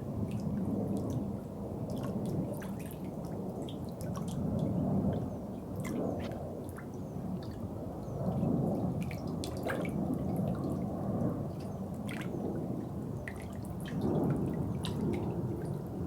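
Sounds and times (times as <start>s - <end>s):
water drips and splashes: 0.1s - 16.0s.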